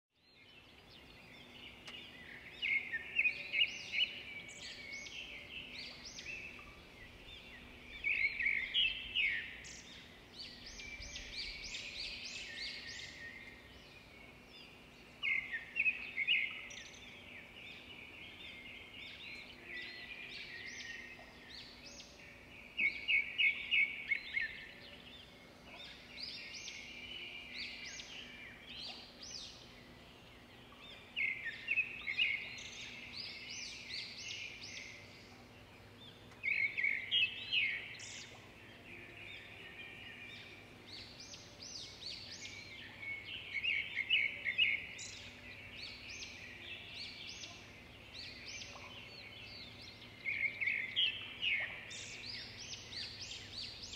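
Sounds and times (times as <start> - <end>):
small birds chirping: 0.2 - 53.9.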